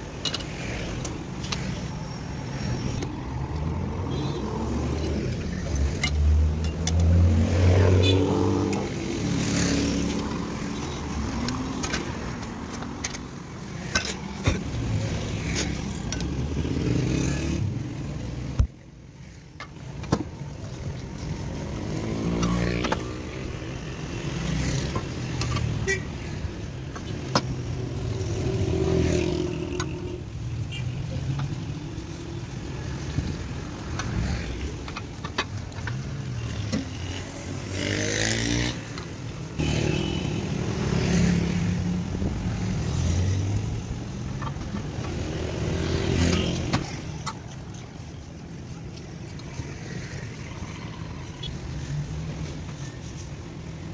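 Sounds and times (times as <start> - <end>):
vehicle engines passing: 0.0 - 53.9.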